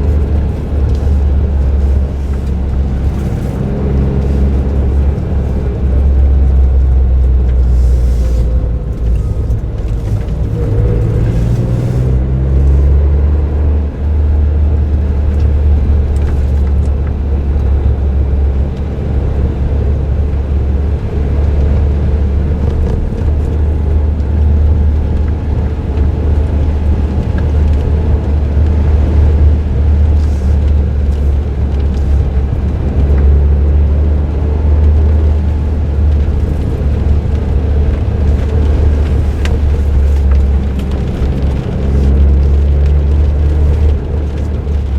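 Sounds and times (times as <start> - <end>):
car engine droning: 0.0 - 44.9
tyre and road noise: 0.0 - 44.9.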